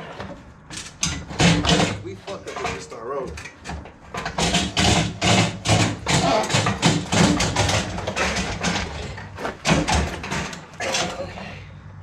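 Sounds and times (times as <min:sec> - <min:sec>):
clunks knocks and rattles: 0:00.0 - 0:11.6
motorcycle rolling down metal ramps: 0:00.0 - 0:11.8.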